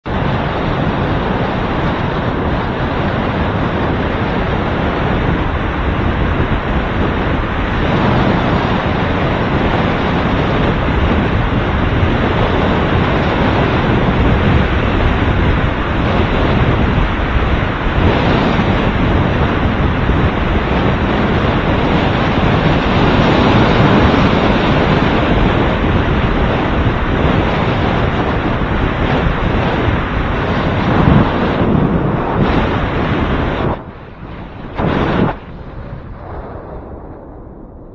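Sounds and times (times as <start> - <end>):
road rumble: 0.0 - 37.9
wind buffeting microphone: 0.0 - 37.9.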